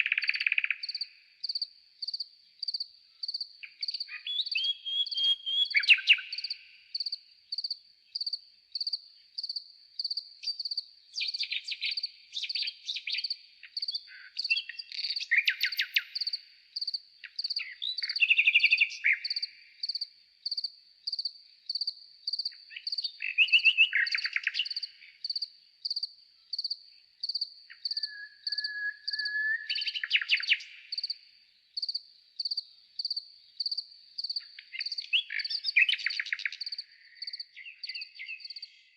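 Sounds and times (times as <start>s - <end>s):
slowed bird song trills: 0.0s - 38.9s.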